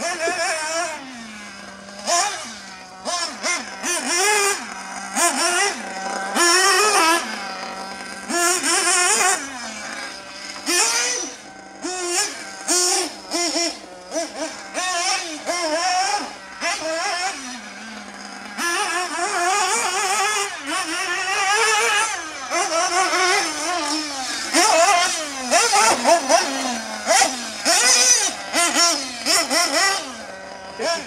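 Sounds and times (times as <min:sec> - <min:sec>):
model car engine revving: 0:00.0 - 0:31.0.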